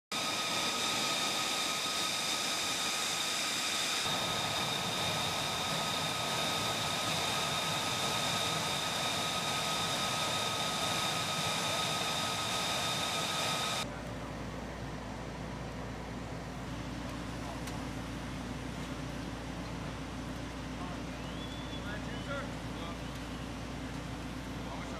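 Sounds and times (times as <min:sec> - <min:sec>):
jet engine turbine whine: 0:00.1 - 0:13.9, 0:18.0 - 0:24.9.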